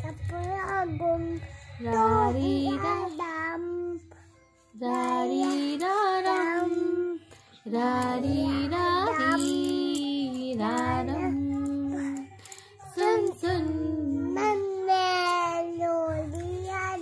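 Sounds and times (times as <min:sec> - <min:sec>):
child singing a lullaby: 0:00.0 - 0:17.0.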